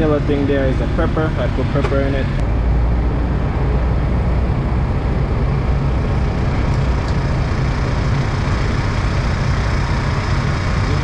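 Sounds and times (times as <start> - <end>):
generator engine drone: 0.0 - 11.0.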